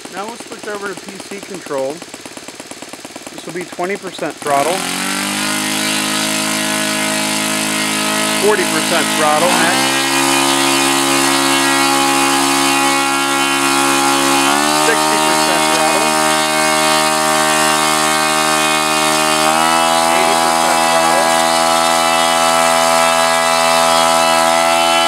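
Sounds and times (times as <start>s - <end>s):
model airplane engine running: 0.0s - 25.0s.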